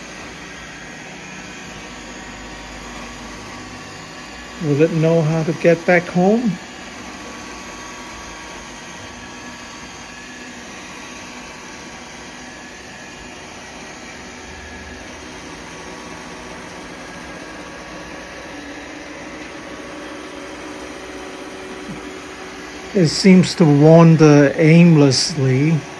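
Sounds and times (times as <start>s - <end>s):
robot vacuum humming: 0.0s - 25.9s.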